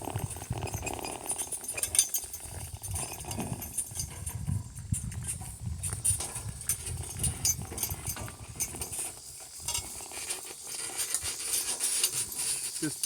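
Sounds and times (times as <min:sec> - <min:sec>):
donkey hooves walking: 0:00.0 - 0:13.0
harness clinking: 0:00.0 - 0:13.0.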